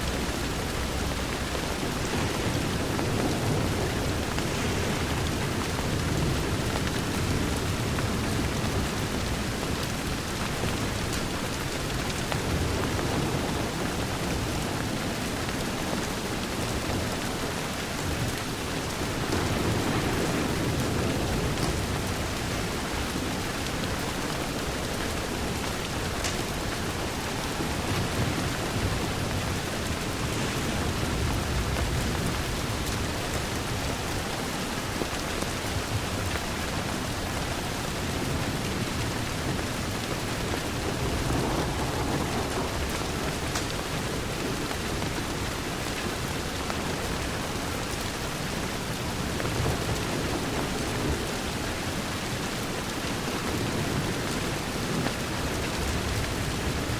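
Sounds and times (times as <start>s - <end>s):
rain on a window pane: 0.0s - 56.9s.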